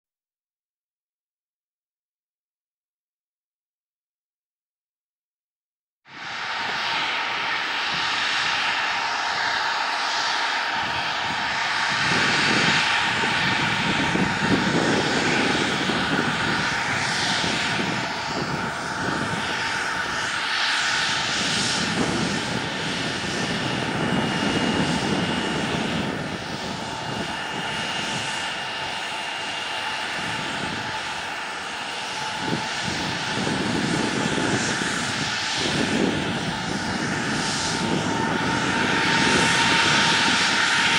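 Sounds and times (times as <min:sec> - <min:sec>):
jet engines whining: 0:06.1 - 0:40.9
rumbling roar of jet: 0:06.1 - 0:40.9.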